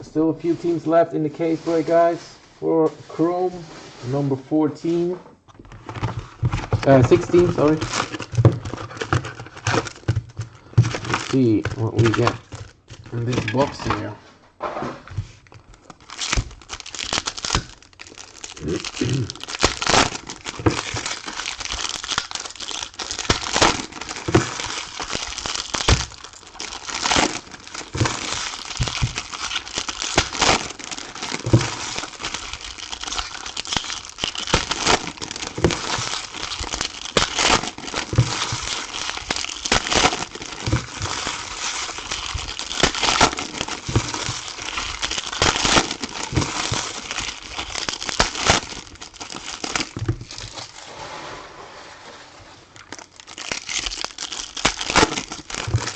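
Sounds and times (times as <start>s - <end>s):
foil wrappers tearing and crinkling: 5.6s - 14.1s, 15.2s - 50.8s, 52.7s - 55.9s.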